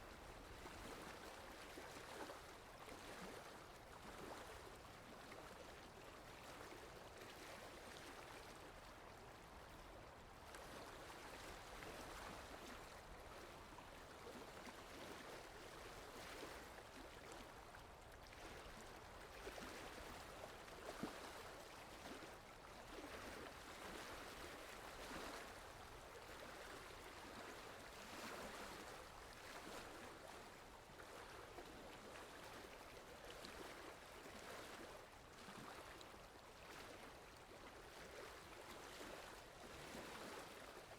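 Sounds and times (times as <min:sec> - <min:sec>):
water lapping: 0:00.0 - 0:40.9.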